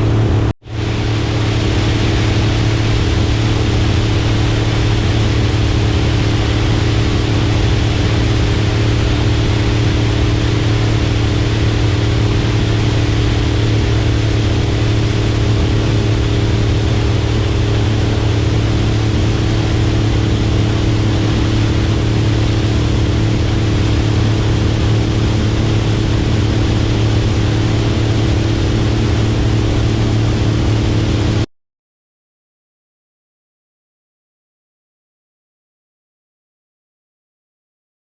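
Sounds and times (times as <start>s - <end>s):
machine drone with hum and hiss: 0.0s - 31.5s.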